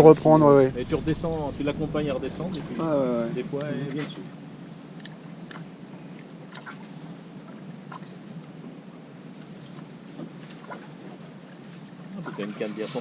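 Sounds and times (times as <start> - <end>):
wind and water wash: 0.0 - 13.0.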